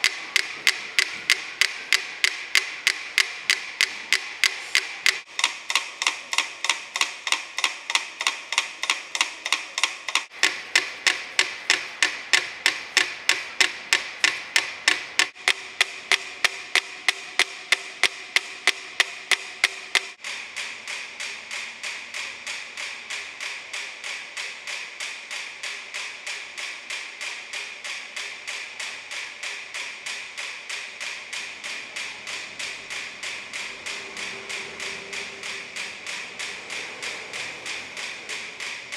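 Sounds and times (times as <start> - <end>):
metronomes ticking: 0.0 - 38.9.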